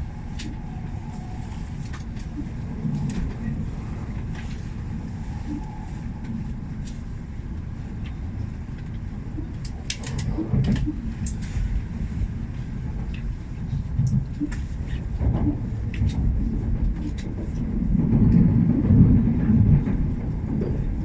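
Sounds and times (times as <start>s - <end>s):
low rumble of trains: 0.0s - 21.0s.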